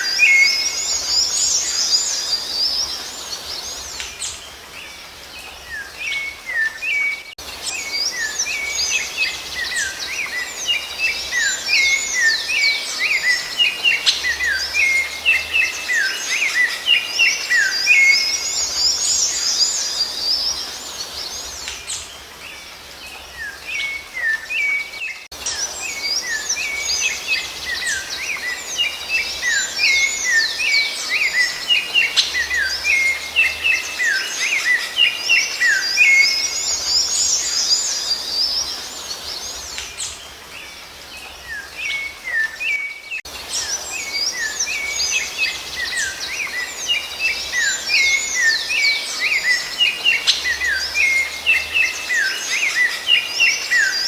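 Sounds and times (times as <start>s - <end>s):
songbirds chirping and whistling: 0.0s - 54.0s.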